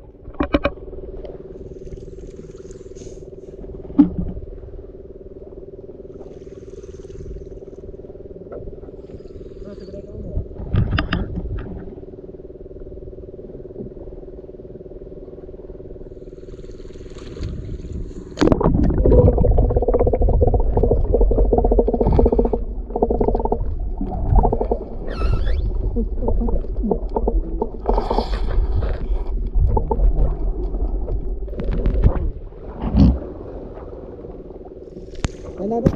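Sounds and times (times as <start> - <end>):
water splashing around a boat: 0.0 - 12.4, 15.7 - 35.9
steady low hum: 0.0 - 35.9.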